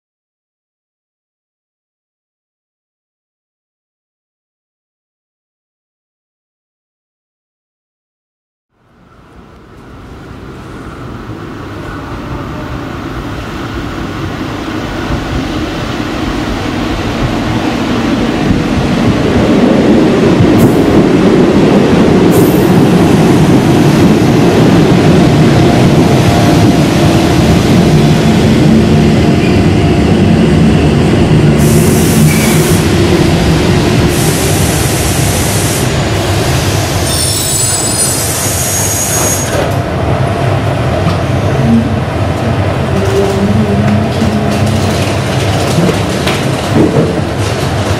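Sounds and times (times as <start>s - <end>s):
train rumbling: 8.8s - 47.9s.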